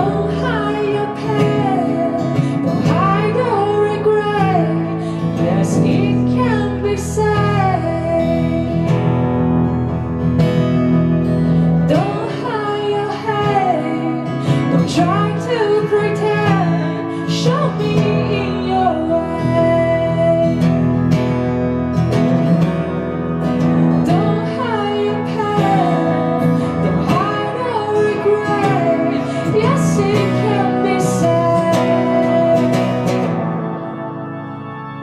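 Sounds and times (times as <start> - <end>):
woman singing a slow ballad: 0.0 - 9.9, 11.3 - 21.3, 23.8 - 34.0
acoustic guitar: 0.0 - 35.0.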